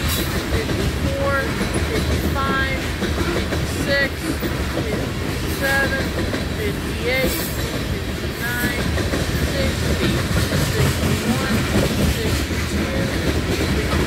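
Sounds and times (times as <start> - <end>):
freight train cars rumbling past: 0.0 - 14.0.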